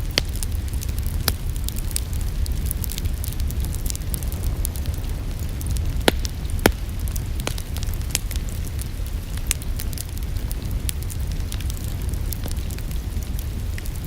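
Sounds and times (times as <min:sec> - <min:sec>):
fire crackling and popping: 0:00.0 - 0:14.0
steady low rumble: 0:00.0 - 0:14.0.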